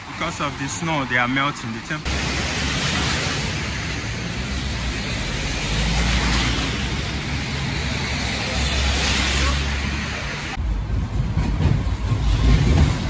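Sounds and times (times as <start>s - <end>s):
tyres hissing on wet road: 0.0s - 10.6s.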